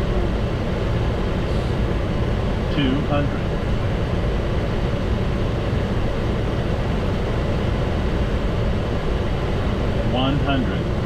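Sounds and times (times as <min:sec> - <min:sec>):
airflow rushing: 0:00.0 - 0:11.0
jet engine rumble: 0:00.0 - 0:11.0.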